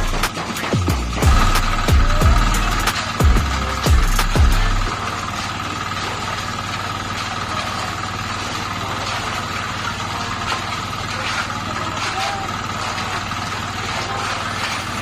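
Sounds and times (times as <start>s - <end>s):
engine running with high whine: 0.0s - 15.0s.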